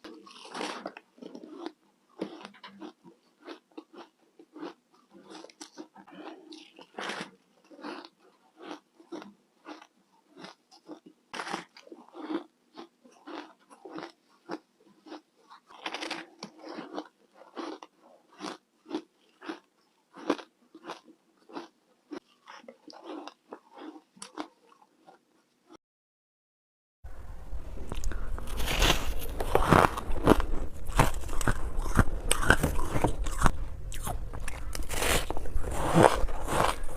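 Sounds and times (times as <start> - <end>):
person crunching ice: 0.0 - 12.5, 13.2 - 22.3, 27.9 - 36.9.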